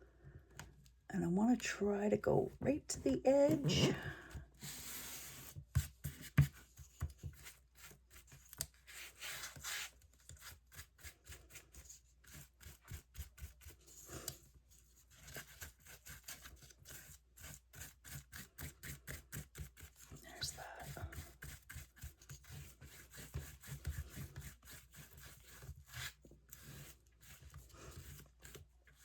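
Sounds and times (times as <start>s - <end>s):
paintbrush scrubbing on canvas: 3.4s - 29.0s.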